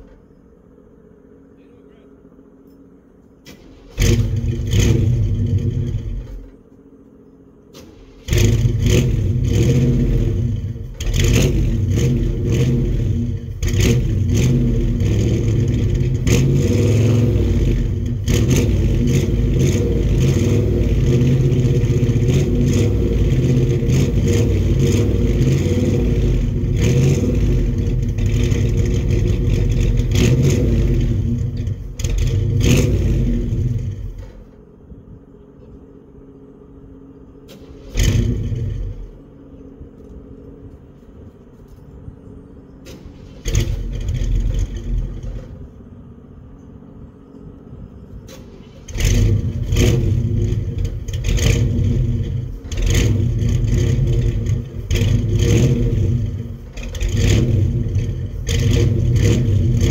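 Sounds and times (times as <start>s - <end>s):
truck engine starting and running: 0.0s - 59.9s.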